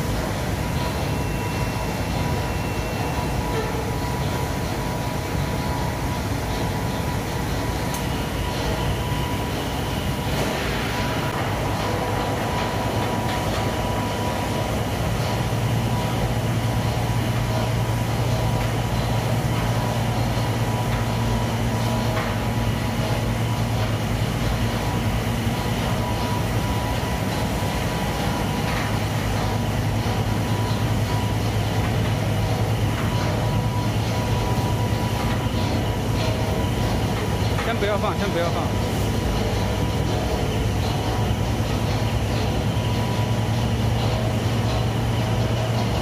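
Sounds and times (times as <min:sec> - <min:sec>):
machinery rumble: 0:00.0 - 0:46.0
thin steady whine: 0:00.0 - 0:46.0.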